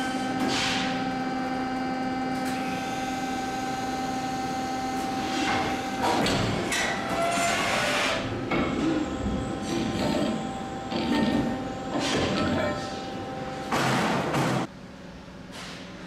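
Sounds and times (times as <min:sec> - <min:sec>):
press machine humming: 0:01.4 - 0:14.7.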